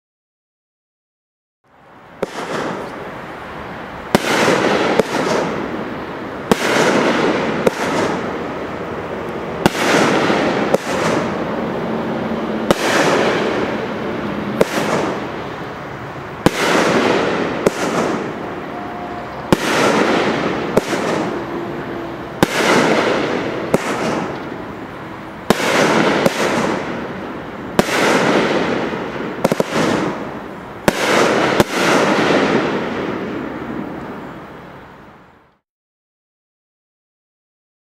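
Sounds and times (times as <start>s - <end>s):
fireworks shots with hiss: 2.0s - 35.5s.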